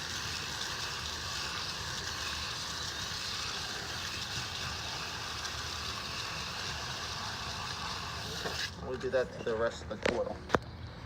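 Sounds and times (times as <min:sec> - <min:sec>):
garden hose spraying water: 0:00.0 - 0:09.2.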